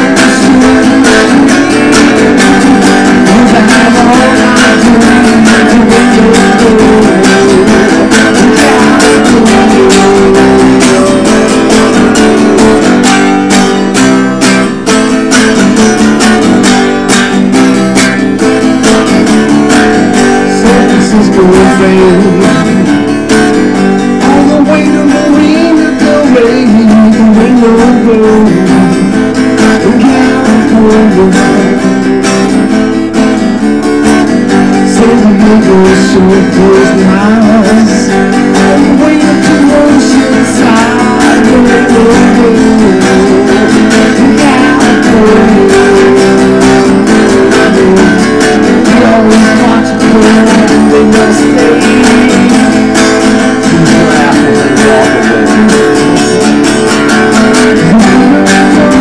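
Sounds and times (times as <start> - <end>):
acoustic guitar strumming chords: 0.0 - 59.0.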